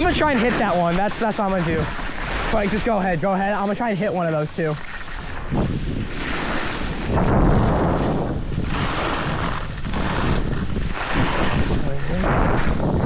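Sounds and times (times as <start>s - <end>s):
skis scraping over snow: 0.0s - 13.0s
wind rushing over microphone: 0.0s - 13.0s.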